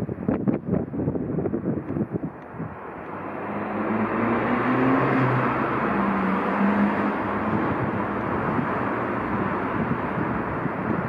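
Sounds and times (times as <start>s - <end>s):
low motor hum: 0.0s - 11.0s
train wheels rumbling on rail: 0.0s - 11.0s.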